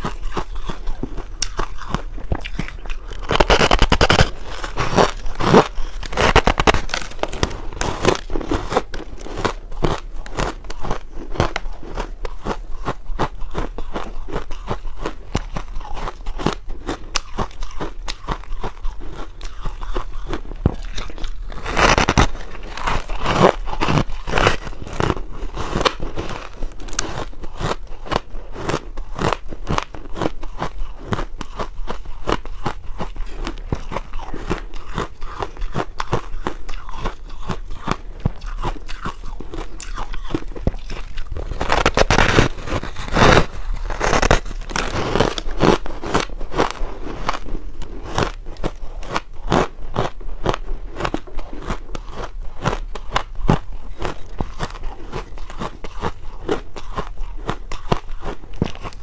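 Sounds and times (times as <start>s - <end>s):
crunching frozen ice cake: 0.0s - 59.0s.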